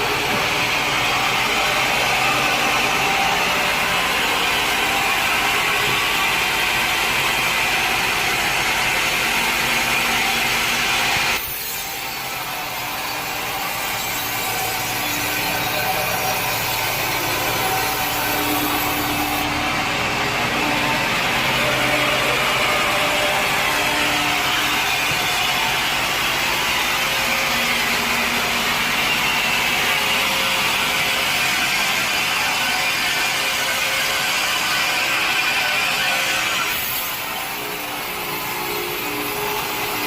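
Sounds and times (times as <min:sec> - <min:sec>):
sawmill saw cutting wood: 0:00.0 - 0:40.0.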